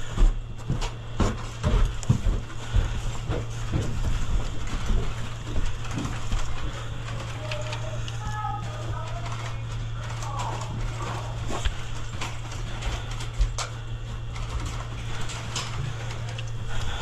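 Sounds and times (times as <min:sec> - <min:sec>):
footsteps on hard floor: 0:00.0 - 0:17.0
steady low hum: 0:00.0 - 0:17.0
gear rustling: 0:01.4 - 0:17.0.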